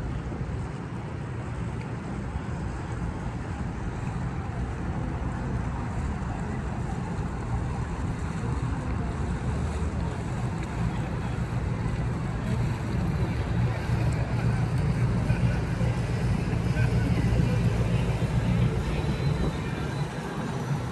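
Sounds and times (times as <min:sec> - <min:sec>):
city ambience rumble and hiss: 0:00.0 - 0:20.9.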